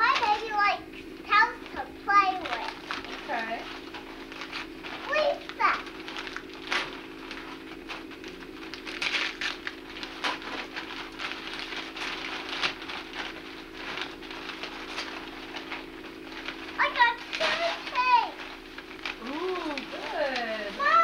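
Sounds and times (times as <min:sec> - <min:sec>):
wrapping paper rustling: 0:00.0 - 0:21.0.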